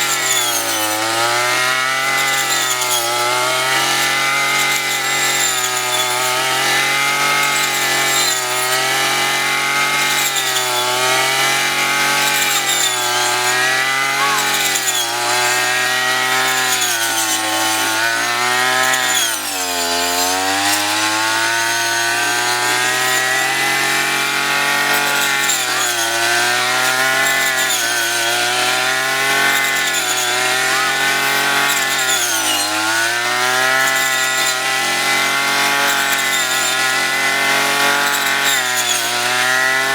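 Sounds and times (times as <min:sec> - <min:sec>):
small petrol engine revving: 0:00.0 - 0:39.9.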